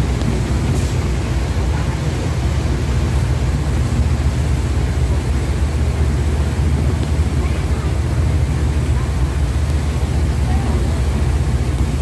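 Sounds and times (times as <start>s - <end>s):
ferry engine drone: 0.0s - 12.0s
hiss of wind and water: 0.0s - 12.0s.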